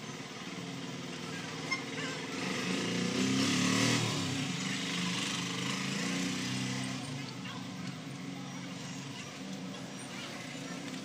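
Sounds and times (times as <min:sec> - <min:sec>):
vehicle engine passing by: 0:01.1 - 0:11.0.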